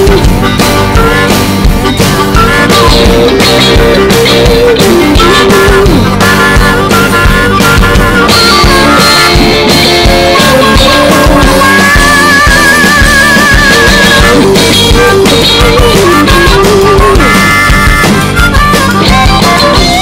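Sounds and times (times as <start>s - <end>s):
music with steady drum beat: 0.0s - 20.0s.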